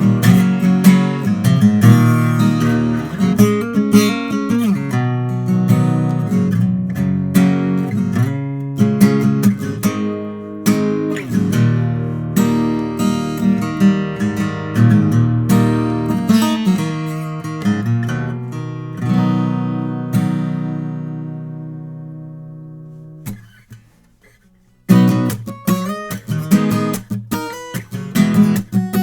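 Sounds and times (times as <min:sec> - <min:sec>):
acoustic guitar fingerstyle and strummed: 0:00.0 - 0:29.0.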